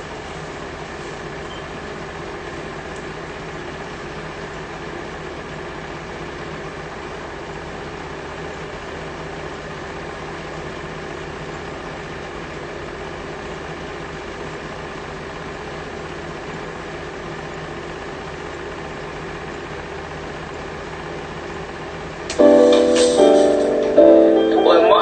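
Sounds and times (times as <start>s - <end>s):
mechanical hum with hiss: 0.0s - 24.0s.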